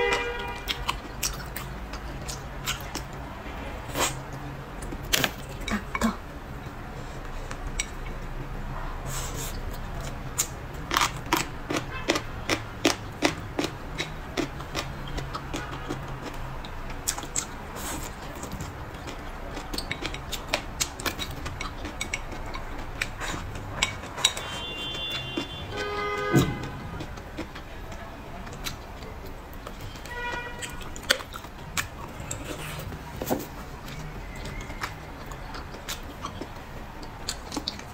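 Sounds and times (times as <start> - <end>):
wet chewing and smacking: 0.0 - 3.3, 9.3 - 37.9.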